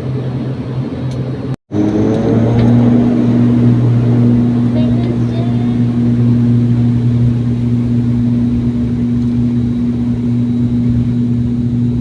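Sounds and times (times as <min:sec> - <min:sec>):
plane engines droning in cabin: 0:00.0 - 0:12.0.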